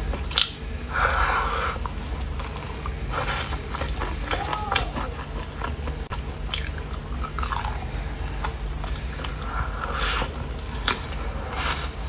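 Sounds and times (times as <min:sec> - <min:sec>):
crunching fried chicken: 0:00.2 - 0:12.0
wet chewing: 0:00.3 - 0:12.0.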